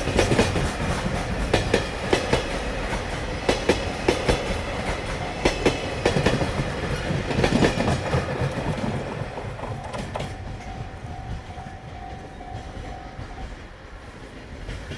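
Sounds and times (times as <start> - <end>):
train wheels clattering over joints: 0.0 - 14.9.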